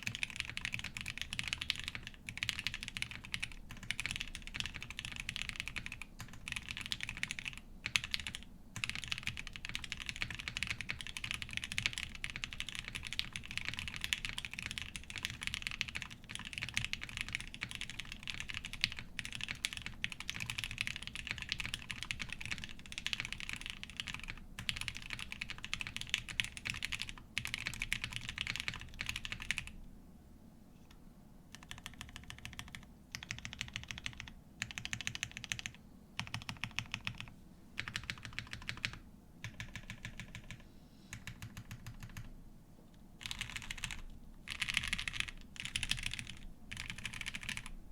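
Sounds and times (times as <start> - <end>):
fast mechanical keyboard typing: 0.0 - 29.8, 31.5 - 42.3, 43.2 - 47.8.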